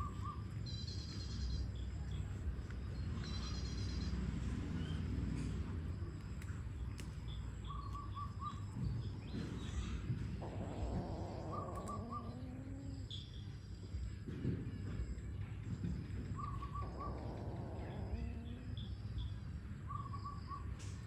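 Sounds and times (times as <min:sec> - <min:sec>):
faint bird chirps: 0:00.0 - 0:05.1, 0:06.2 - 0:14.2, 0:16.2 - 0:21.0
steady low rumble: 0:00.0 - 0:20.0.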